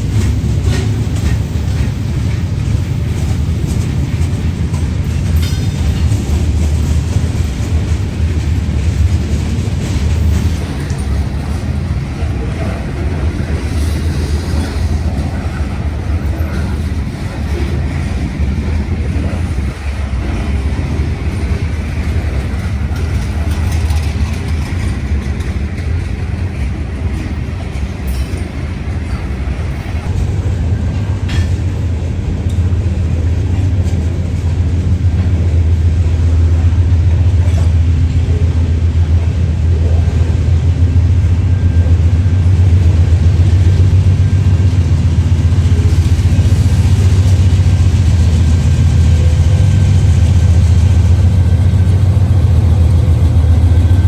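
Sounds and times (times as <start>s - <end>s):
diesel locomotive engine rumble: 0.0s - 54.0s.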